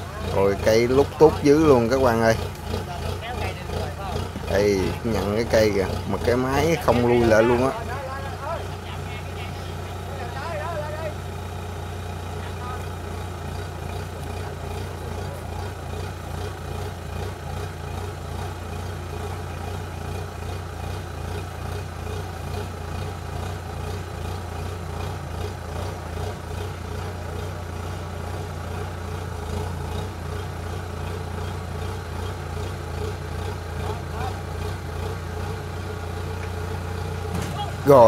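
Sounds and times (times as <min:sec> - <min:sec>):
heavy diesel engine throbbing: 0:00.0 - 0:38.0.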